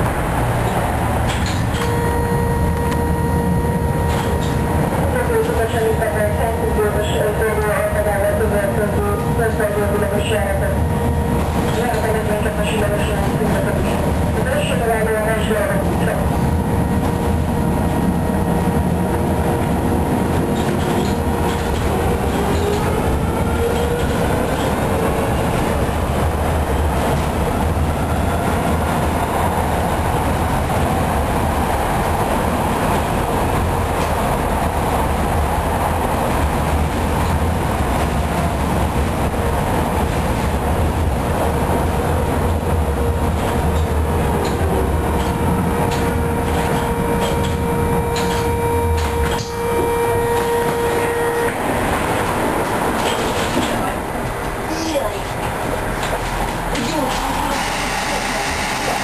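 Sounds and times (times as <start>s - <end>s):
steady whine: 0.0s - 59.0s
tram wheels rumbling: 0.0s - 59.0s
rail joints clicking: 0.4s - 2.0s, 4.0s - 10.4s, 11.4s - 16.2s, 19.0s - 31.0s, 35.8s - 59.0s.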